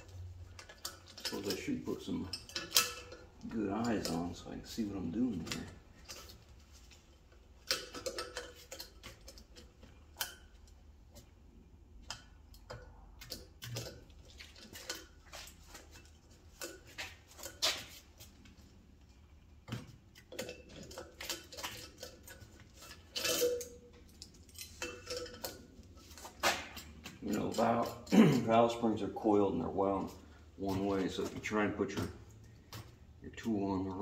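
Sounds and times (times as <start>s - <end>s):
metal parts clicking and tapping: 0.0s - 33.5s.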